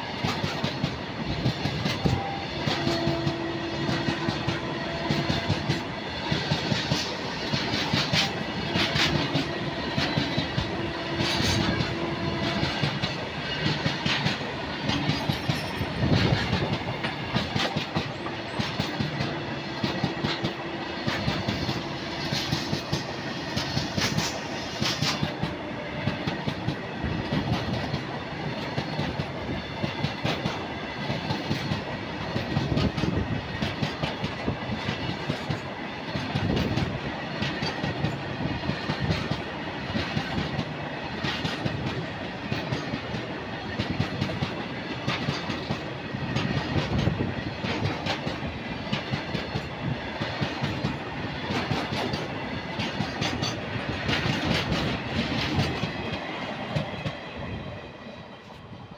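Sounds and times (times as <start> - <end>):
wheels clacking over rail joints: 0.2 - 57.4.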